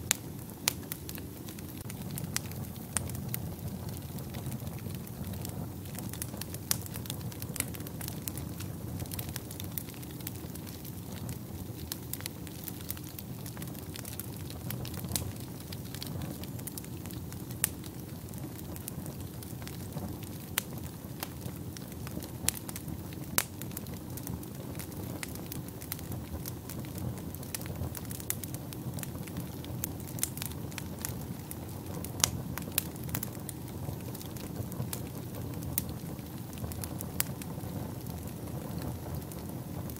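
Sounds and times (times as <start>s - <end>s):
fire crackling and popping: 0.0s - 39.9s
flames rumbling: 0.0s - 39.9s.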